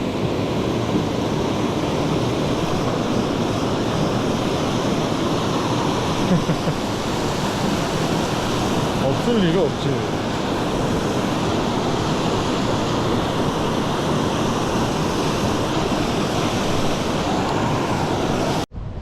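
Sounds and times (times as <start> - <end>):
stream rushing over rocks: 0.0 - 18.7.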